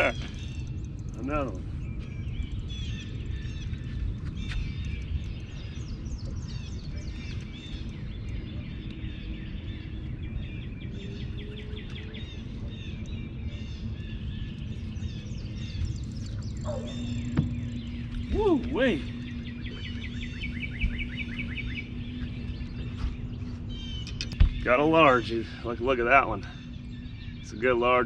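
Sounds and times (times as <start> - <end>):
small birds chirping: 0.0 - 28.0
steady low rumble: 0.0 - 28.0.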